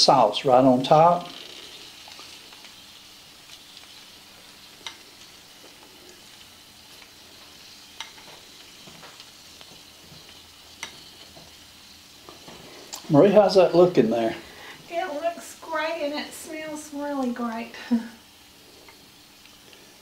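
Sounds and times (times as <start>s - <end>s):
faint sizzle of hot food: 0.0s - 20.0s.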